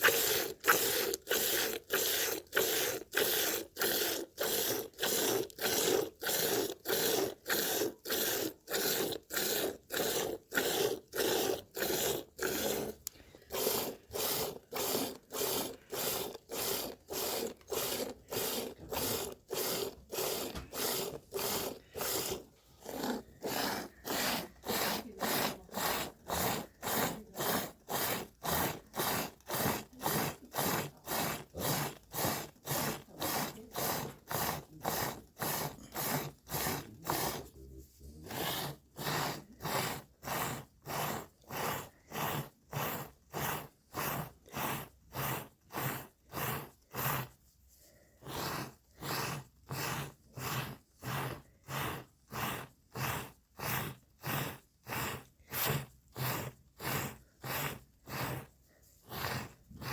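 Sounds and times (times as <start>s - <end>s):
cow rasping: 0.0s - 59.9s.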